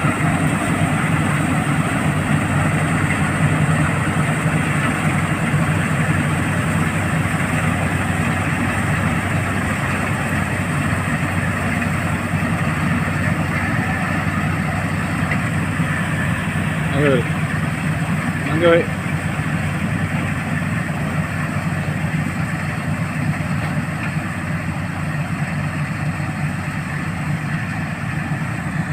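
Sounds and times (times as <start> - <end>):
combine harvester engine: 0.0 - 28.9.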